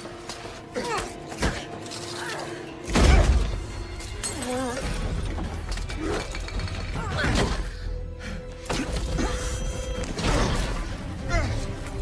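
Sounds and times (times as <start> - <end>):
film score: 0.0 - 12.0.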